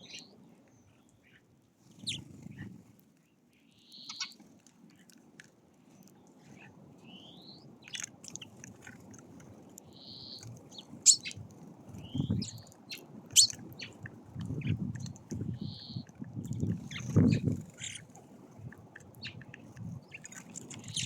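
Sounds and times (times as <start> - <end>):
songbirds chirping and whistling: 0.0 - 2.7, 3.6 - 4.4, 6.4 - 9.0, 9.7 - 21.0.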